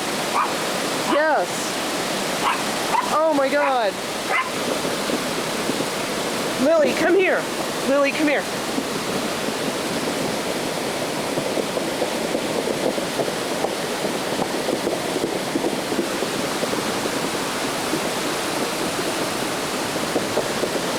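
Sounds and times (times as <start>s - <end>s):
flood water rushing: 0.0s - 20.9s.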